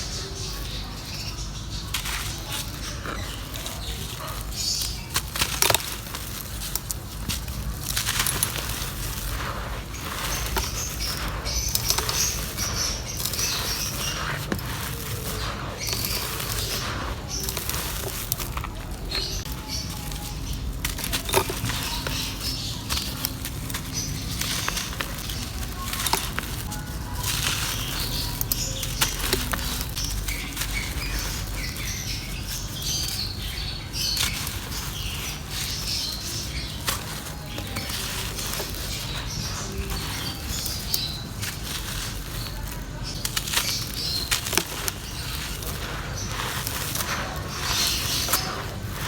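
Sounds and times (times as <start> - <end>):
dry clay crumbling and crackling: 0.0 - 49.0.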